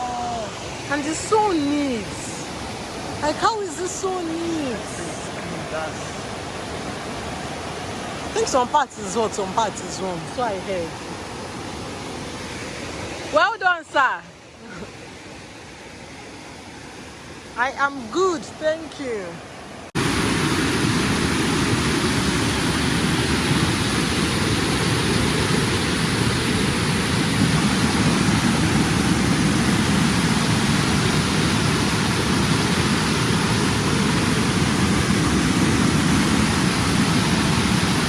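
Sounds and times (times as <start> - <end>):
waterfall rushing: 0.0 - 13.8, 19.9 - 38.0.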